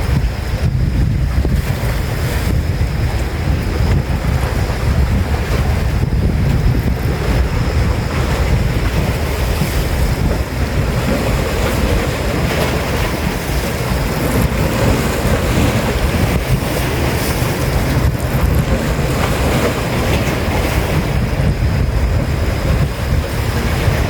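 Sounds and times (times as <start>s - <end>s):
lake waves washing: 0.0s - 24.0s
wind buffeting microphone: 0.0s - 24.0s.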